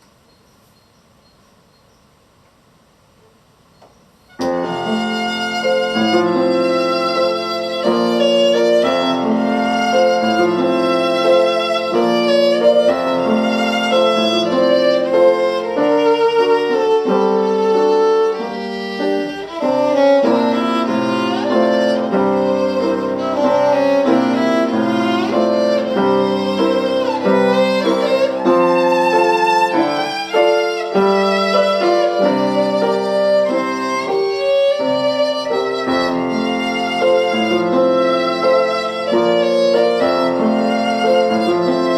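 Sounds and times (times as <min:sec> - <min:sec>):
solo violin playing: 0:04.3 - 0:41.9.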